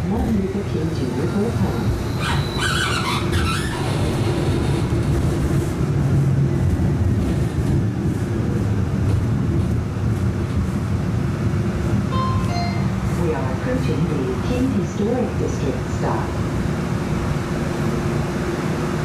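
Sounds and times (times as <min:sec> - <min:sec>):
streetcar motors and wheels rumbling: 0:00.0 - 0:19.0.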